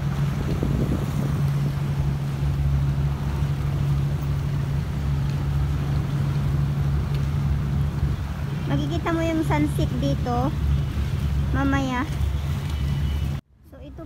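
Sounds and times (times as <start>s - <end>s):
low engine drone: 0.0s - 13.5s
wind rumbling on microphone: 0.0s - 14.0s.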